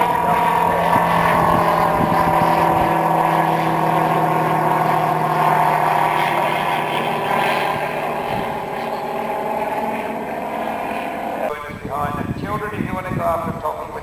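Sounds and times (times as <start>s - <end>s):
model aircraft engine buzzing: 0.0s - 14.0s.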